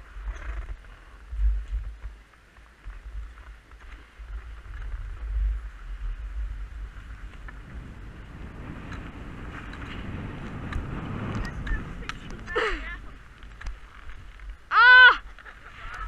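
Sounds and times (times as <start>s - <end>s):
skis scraping over snow: 0.0s - 14.7s
wind buffeting microphone: 2.8s - 16.0s.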